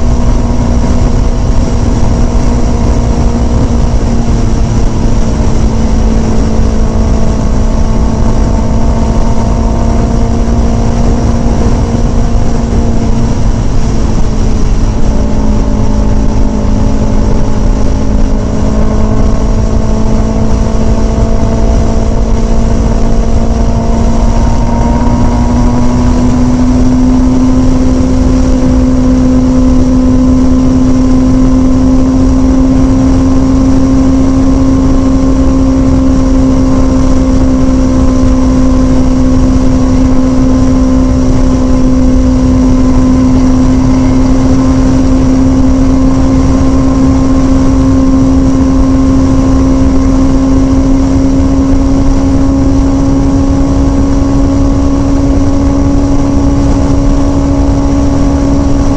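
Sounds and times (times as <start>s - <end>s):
motorcycle engine droning: 0.0s - 58.9s
wind rushing over microphone: 0.0s - 58.9s.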